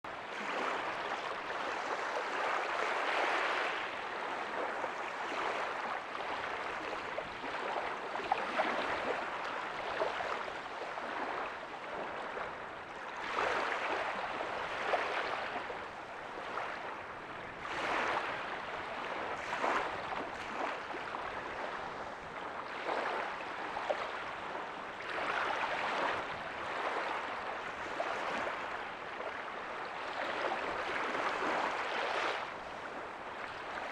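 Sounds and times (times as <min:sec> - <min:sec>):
small waves breaking on beach: 0:00.1 - 0:33.9.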